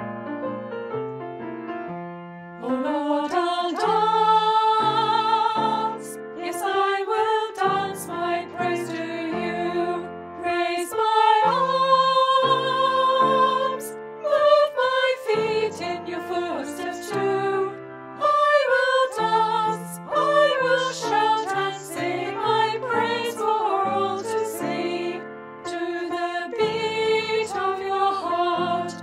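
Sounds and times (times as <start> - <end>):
piano accompaniment: 0.0 - 29.0.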